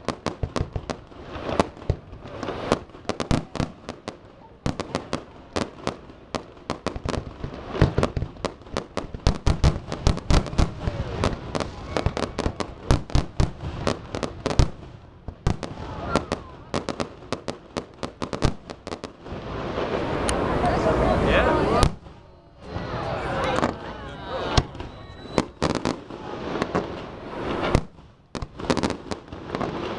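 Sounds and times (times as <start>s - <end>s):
fireworks bangs and pops: 0.0s - 29.9s.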